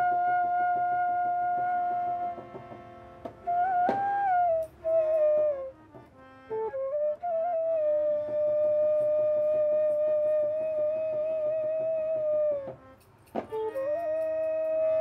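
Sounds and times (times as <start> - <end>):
background music melody: 0.0 - 15.0.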